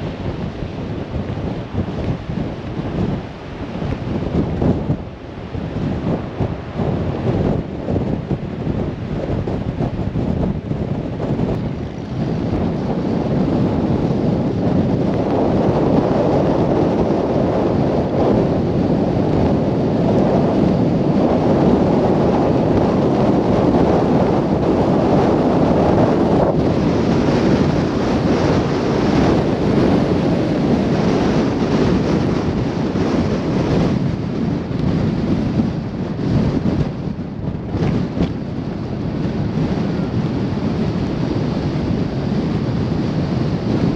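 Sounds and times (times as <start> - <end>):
blizzard wind gusting: 0.0 - 43.9.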